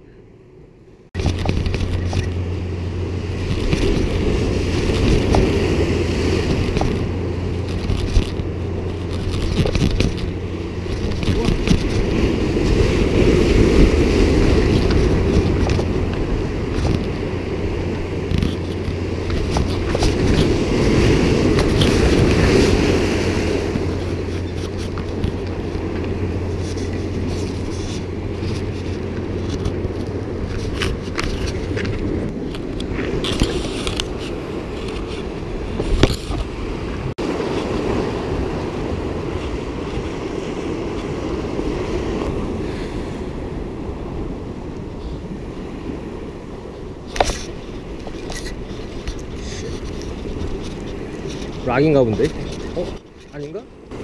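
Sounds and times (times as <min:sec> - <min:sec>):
waves breaking over rocks: 0:01.1 - 0:54.0.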